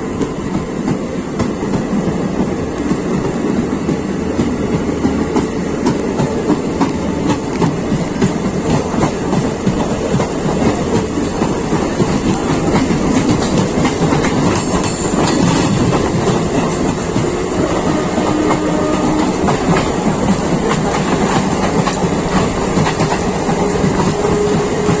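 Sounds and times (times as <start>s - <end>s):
train wheels clattering over rails: 0.0s - 25.0s.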